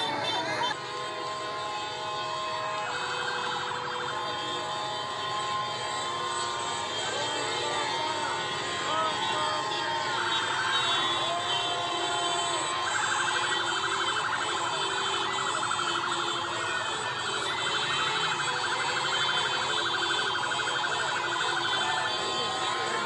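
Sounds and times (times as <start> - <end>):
crowd cheering and shouting: 0.0 - 23.0
siren fast warble: 2.4 - 23.0.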